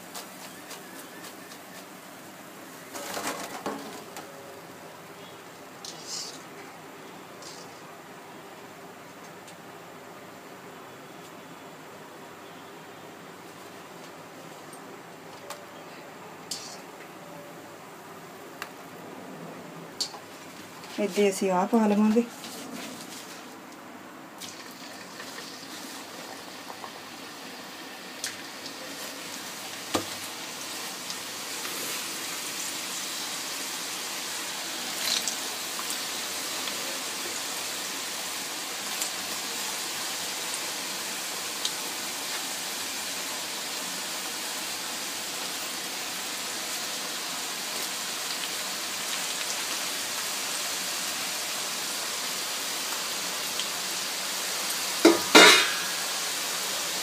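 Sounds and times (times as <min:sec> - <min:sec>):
fries sizzling in hot oil: 0:00.0 - 0:09.6, 0:16.4 - 0:17.1, 0:20.0 - 0:23.7, 0:24.3 - 0:57.0.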